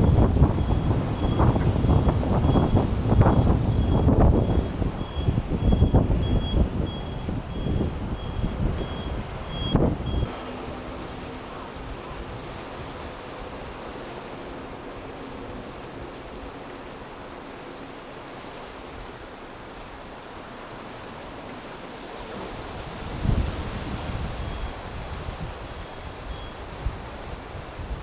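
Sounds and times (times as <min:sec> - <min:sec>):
rough surf: 0:00.0 - 0:28.0.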